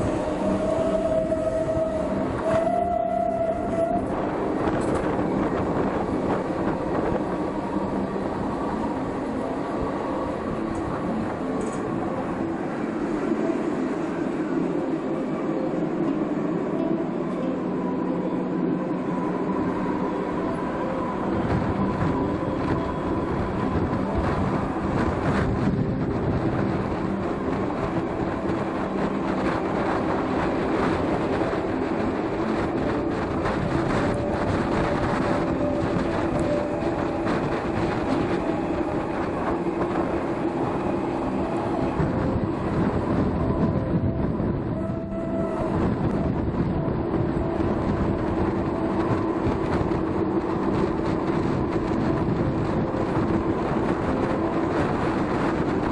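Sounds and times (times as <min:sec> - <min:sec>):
steam train rumble: 0:00.0 - 0:55.9.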